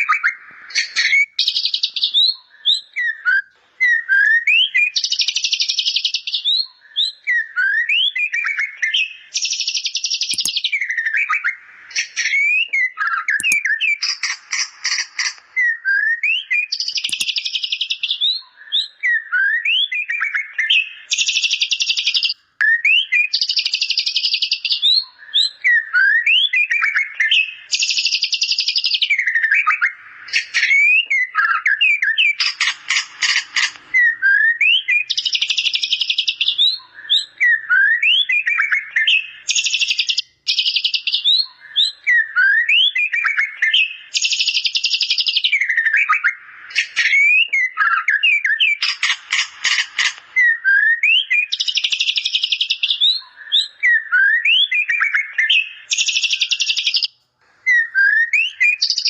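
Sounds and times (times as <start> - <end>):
bird whistled notes: 0.0 - 14.2, 15.2 - 59.0.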